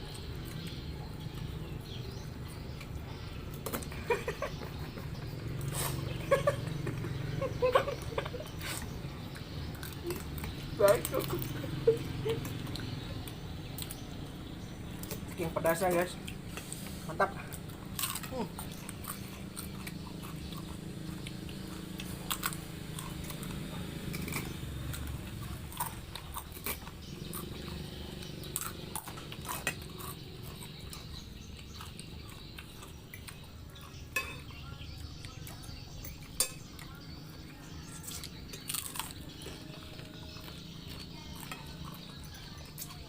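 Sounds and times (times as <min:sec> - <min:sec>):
person chewing noodles: 0:00.0 - 0:15.4, 0:16.0 - 0:34.2, 0:37.9 - 0:43.0.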